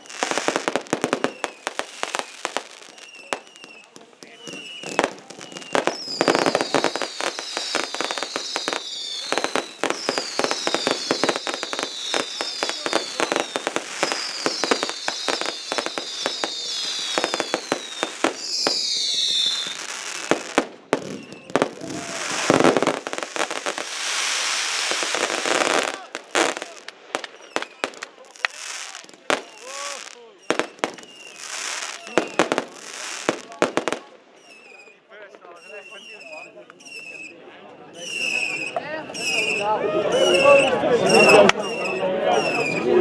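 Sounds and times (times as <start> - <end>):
firework bangs: 0.0 - 34.8
firework crackling: 0.0 - 34.8
falling firework whistles: 0.0 - 43.0.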